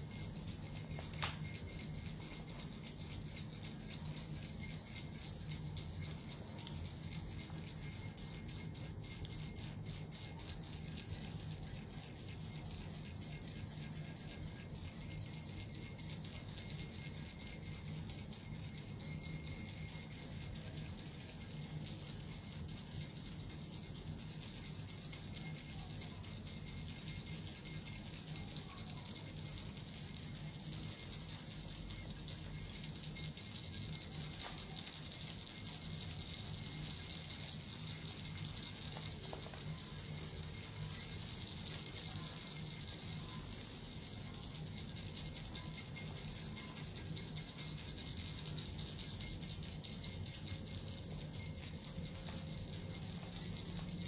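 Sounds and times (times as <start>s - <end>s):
bells and metal rattle jingling: 0.0s - 54.0s.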